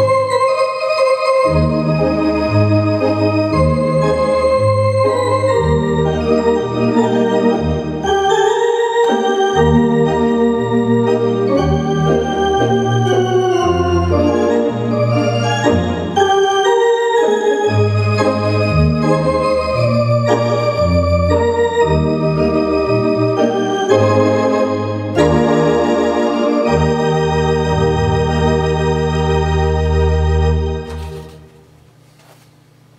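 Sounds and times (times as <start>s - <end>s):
organ playing melody: 0.0s - 31.6s.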